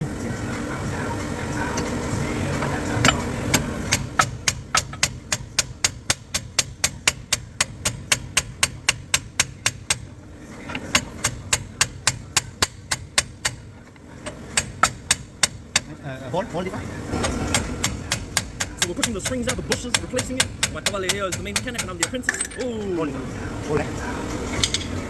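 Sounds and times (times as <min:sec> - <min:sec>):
rapid hammer blows on metal: 0:00.1 - 0:10.1, 0:10.7 - 0:16.0, 0:17.1 - 0:22.9.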